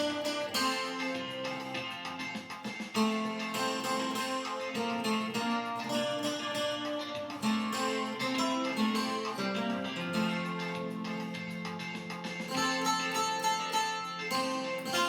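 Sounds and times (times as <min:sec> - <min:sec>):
guitar plucking and strumming a hymn: 0:00.0 - 0:15.0.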